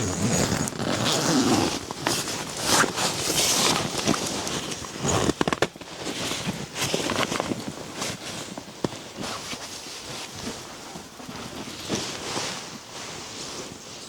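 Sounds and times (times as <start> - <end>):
rustling of handled gear: 0.0 - 14.0.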